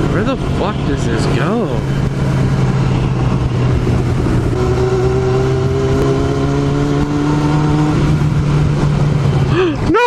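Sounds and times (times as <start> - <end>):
high engine whine: 0.0 - 10.0
motorcycle engine running: 0.0 - 10.0.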